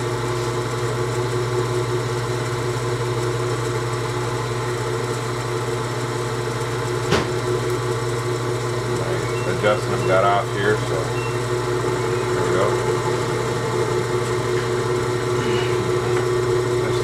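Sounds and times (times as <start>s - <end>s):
spindle motor humming: 0.0s - 17.0s.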